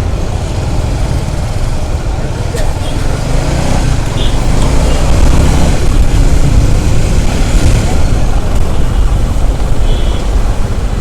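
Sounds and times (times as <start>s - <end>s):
motorcycle rumble: 0.0s - 11.0s
road traffic: 0.0s - 11.0s.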